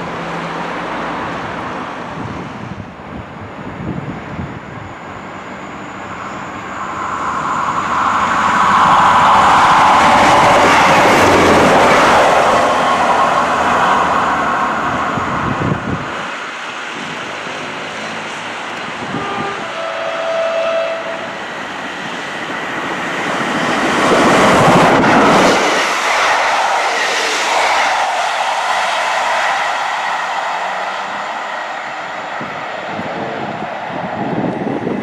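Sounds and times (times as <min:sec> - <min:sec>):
train running past: 0:00.0 - 0:35.0.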